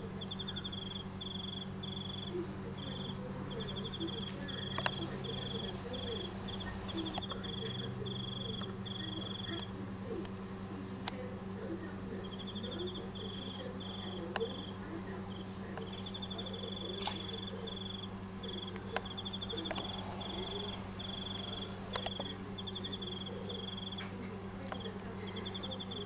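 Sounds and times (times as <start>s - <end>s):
crickets chirping: 0.0s - 9.7s, 12.2s - 26.0s
steady low hum: 0.0s - 26.0s.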